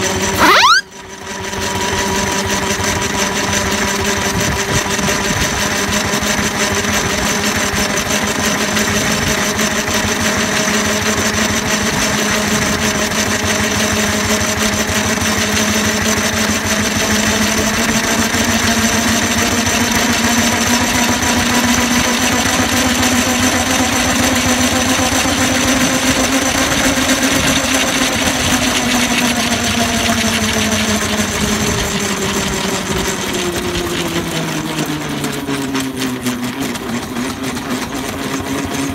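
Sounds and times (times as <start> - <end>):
model steam engine clattering: 4.2 - 38.9.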